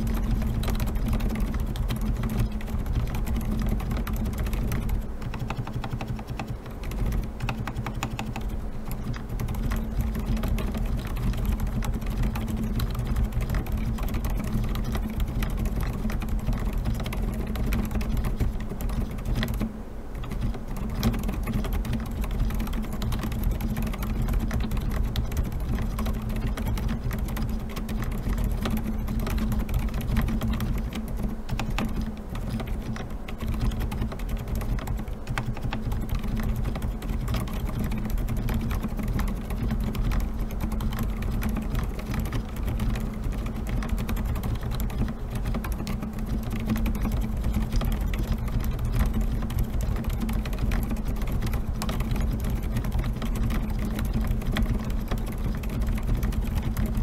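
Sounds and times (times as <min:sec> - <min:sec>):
fast typing on mechanical keyboard: 0:00.0 - 0:57.0.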